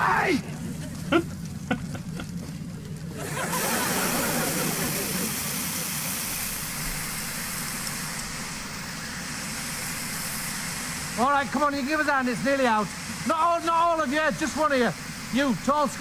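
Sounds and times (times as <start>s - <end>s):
fire hose spraying water: 3.1s - 16.0s.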